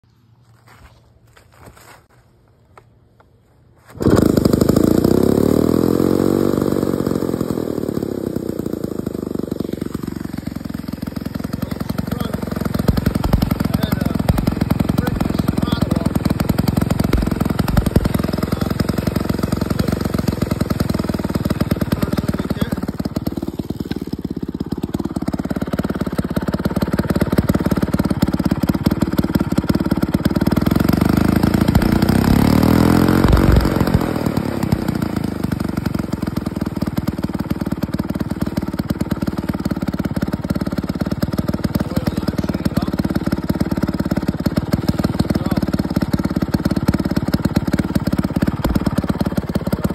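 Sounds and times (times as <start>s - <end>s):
chainsaw engine running: 3.8s - 49.9s.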